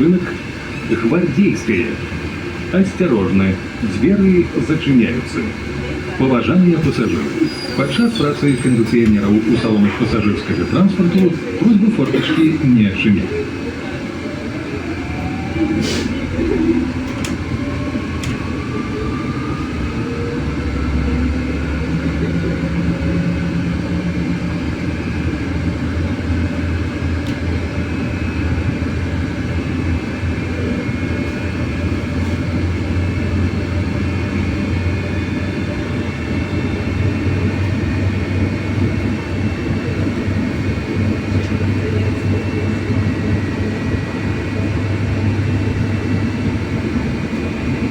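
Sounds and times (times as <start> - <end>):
electric bus drive whine: 0.0 - 47.9
road and cabin rumble: 0.0 - 47.9.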